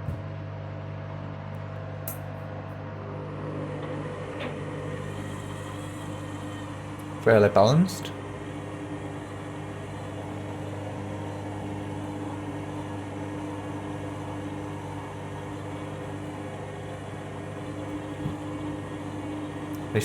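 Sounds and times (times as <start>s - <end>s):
washing machine draining hum: 0.0s - 20.0s.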